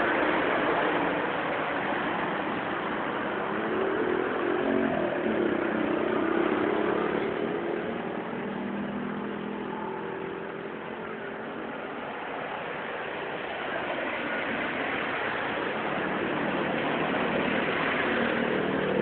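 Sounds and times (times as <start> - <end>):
hiss of rain and wet pavement: 0.0 - 19.0
vehicle engine passing on wet road: 0.0 - 19.0.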